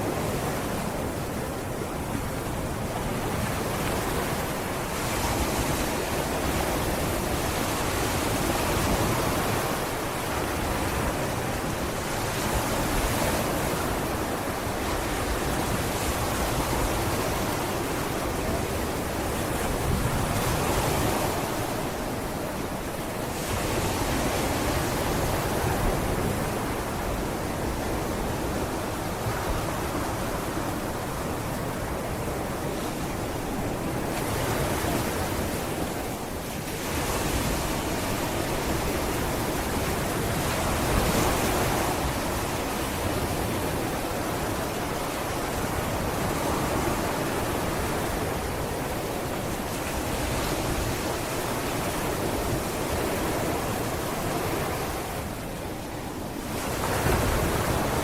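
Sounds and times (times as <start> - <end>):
waves breaking on a beach: 0.0 - 58.0
wind on microphone: 0.0 - 58.0.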